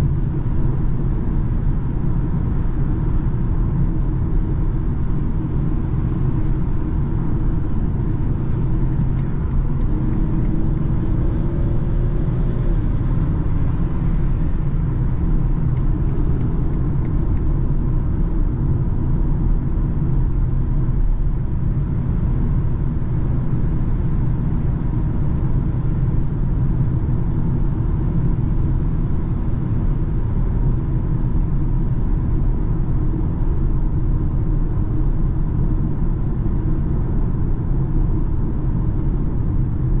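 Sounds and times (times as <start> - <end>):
car cabin road rumble: 0.0 - 40.0.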